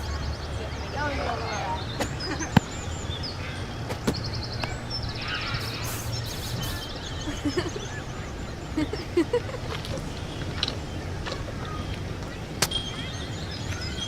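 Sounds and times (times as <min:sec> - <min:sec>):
birds chirping and trilling: 0:00.0 - 0:14.0
outdoor background hiss: 0:00.0 - 0:14.0.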